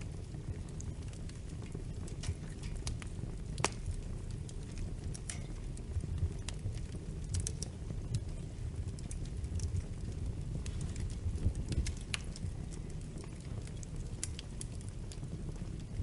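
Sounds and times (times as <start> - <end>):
fire crackles and pops: 0.0 - 16.0
wood fire rumble: 0.0 - 16.0.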